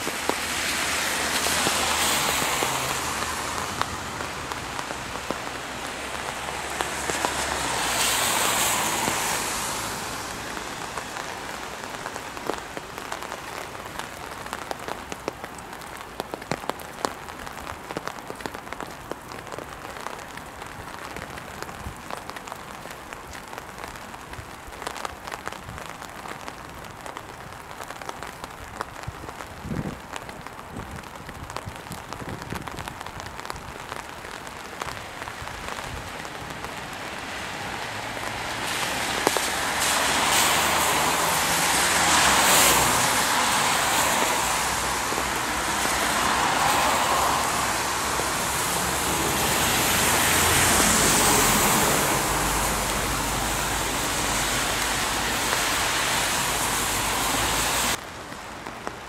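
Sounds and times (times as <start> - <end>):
rain drops ticking: 0.0 - 59.0
tyres hissing on wet road: 0.0 - 59.0.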